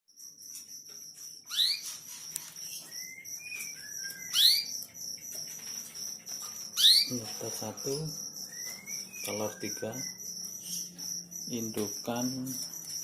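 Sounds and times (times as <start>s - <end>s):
canaries chirping: 0.1s - 13.0s.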